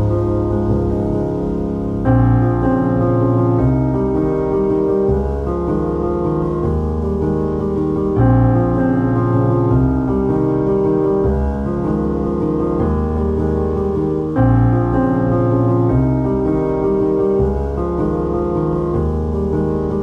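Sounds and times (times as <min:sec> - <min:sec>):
instrumental music with sustained chords: 0:00.0 - 0:20.0.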